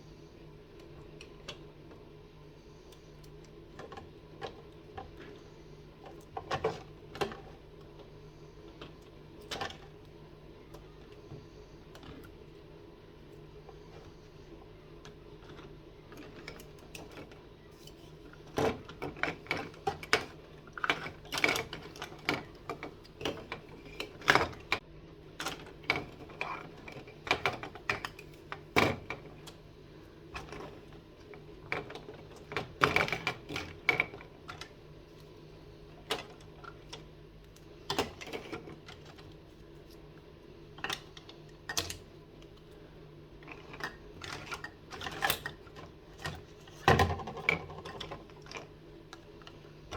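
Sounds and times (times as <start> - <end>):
faint steady hum: 0.0 - 49.9.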